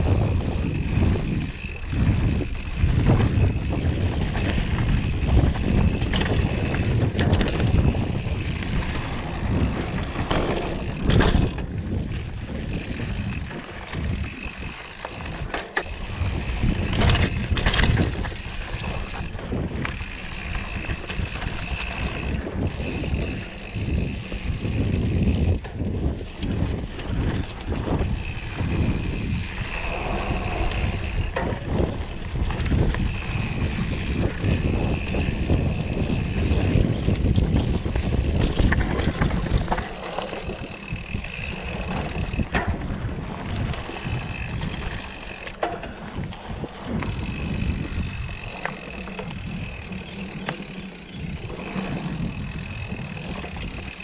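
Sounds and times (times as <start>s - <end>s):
bike knocks and rattles: 0.0s - 54.0s
wind buffeting microphone: 0.0s - 54.0s.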